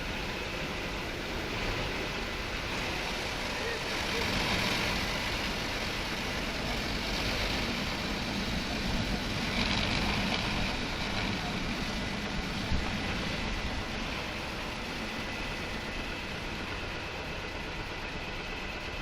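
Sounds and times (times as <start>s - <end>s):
car wash machine rushing: 0.0s - 18.0s.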